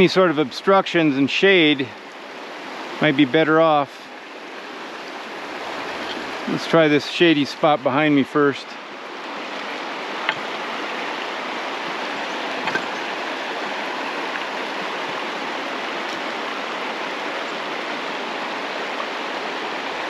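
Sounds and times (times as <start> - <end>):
creek water running over cobbles: 0.0 - 20.0.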